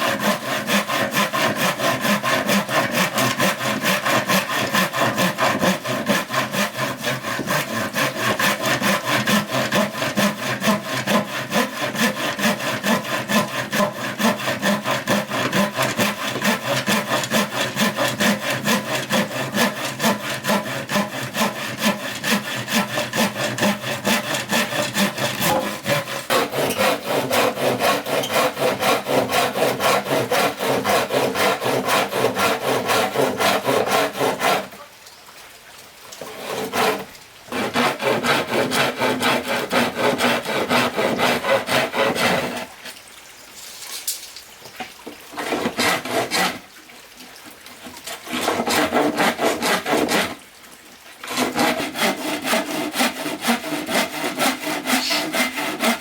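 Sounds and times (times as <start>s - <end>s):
hand saw cutting bamboo: 0.0s - 34.8s, 36.2s - 43.0s, 45.3s - 46.7s, 47.8s - 50.4s, 51.2s - 56.0s.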